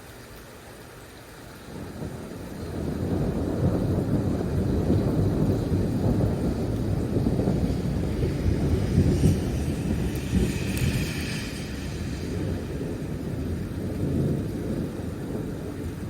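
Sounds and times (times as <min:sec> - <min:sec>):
rolling thunder: 0:01.7 - 0:16.0.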